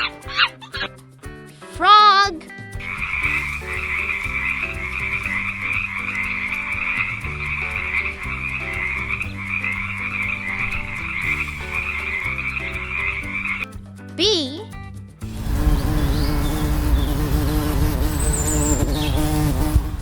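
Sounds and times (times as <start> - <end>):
soft musical backing: 0.0 - 20.0.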